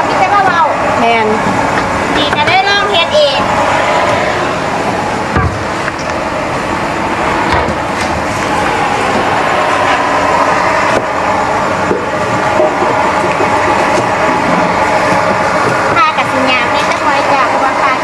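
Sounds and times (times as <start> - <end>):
steady mechanical din: 0.0 - 18.0.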